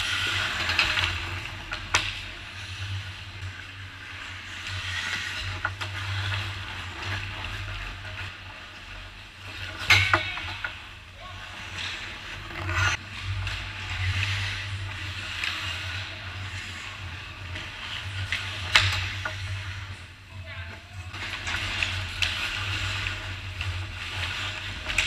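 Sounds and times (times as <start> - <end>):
skates scraping ice: 0.0 - 25.0
steady low hum: 0.0 - 25.0.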